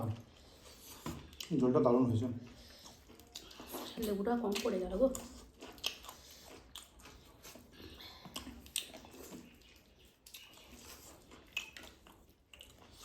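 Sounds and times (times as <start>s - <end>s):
chewing and lip smacks: 0.0s - 13.0s.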